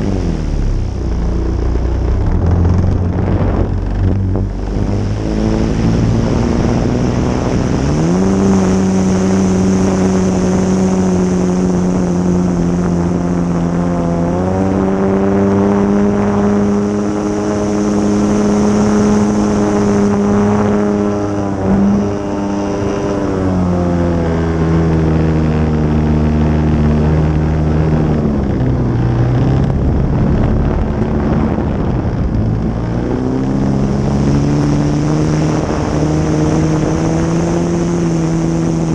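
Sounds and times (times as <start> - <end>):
model plane engine: 0.0 - 38.9
wind rushing: 0.0 - 38.9.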